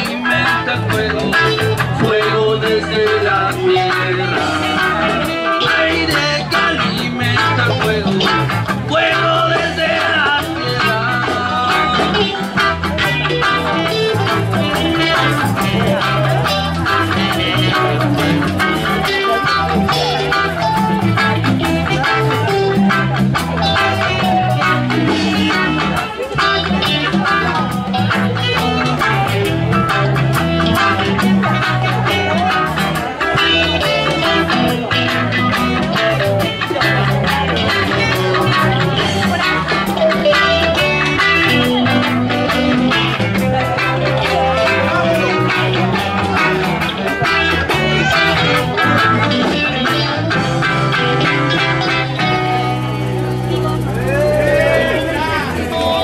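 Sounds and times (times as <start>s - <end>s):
bass line: 0.0s - 56.0s
drums: 0.0s - 56.0s
electric guitars: 0.0s - 56.0s.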